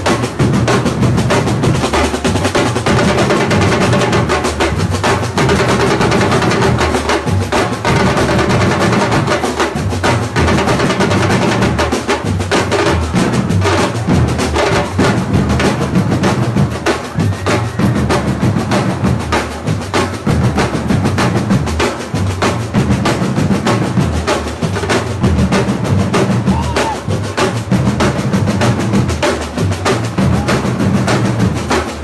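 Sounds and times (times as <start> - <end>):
drum and percussion beat: 0.0 - 32.0.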